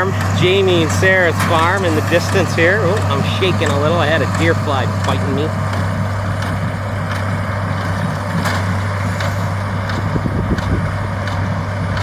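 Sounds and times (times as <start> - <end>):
machinery clicks and knocks: 0.0 - 12.0
tractor diesel engine under load: 0.0 - 12.0.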